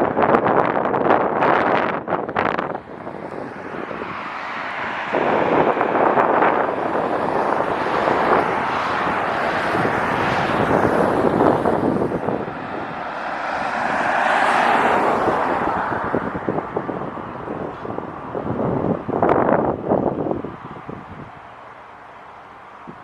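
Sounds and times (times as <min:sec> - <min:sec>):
wind buffeting microphone: 0:00.0 - 0:23.0
jet engines rushing: 0:00.9 - 0:23.0.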